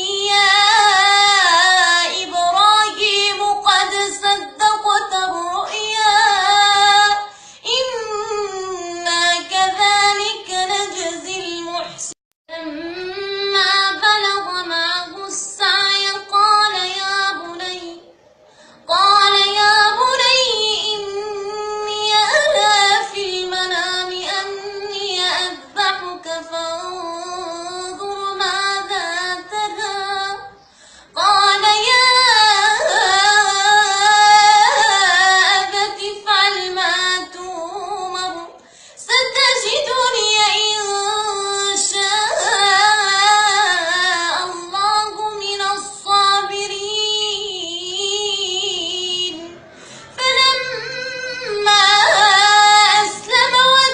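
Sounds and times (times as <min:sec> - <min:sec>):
high voice singing: 0:00.0 - 0:53.9.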